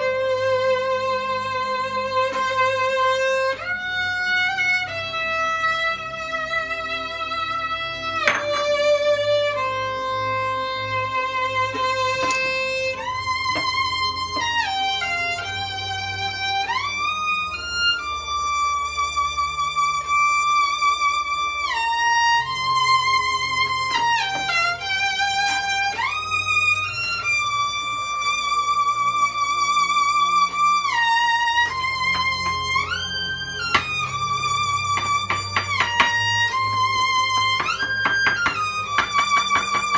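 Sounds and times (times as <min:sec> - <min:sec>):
bowed violin: 0:00.0 - 0:39.9.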